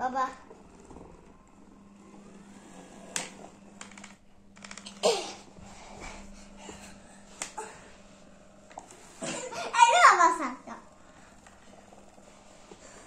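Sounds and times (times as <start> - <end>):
electric massager motor hum: 0.0 - 13.0.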